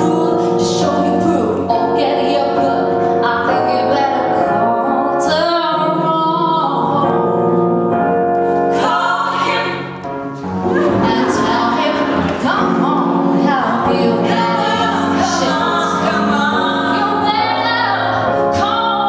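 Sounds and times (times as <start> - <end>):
women singing in harmony: 0.0 - 7.7, 8.5 - 19.0.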